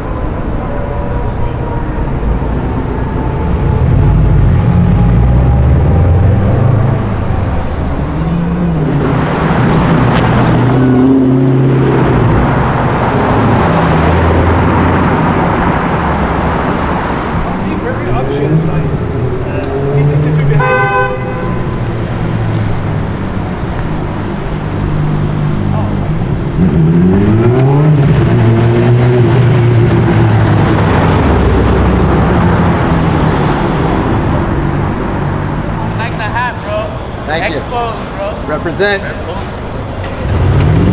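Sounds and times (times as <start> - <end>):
road noise: 0.0 - 40.9
street traffic noise: 0.0 - 40.9
car engine revving: 2.0 - 36.1, 40.1 - 40.9.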